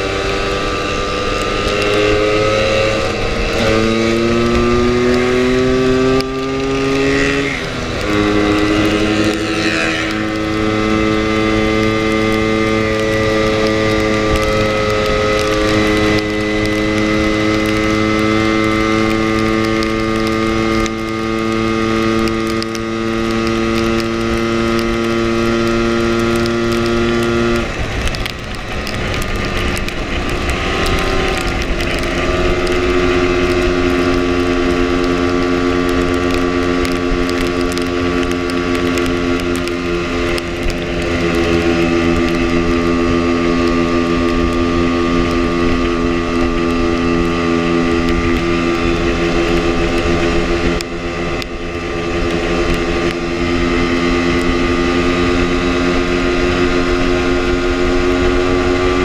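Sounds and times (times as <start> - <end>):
scooter engine running: 0.0 - 59.0
wind rumble on microphone: 0.0 - 59.0.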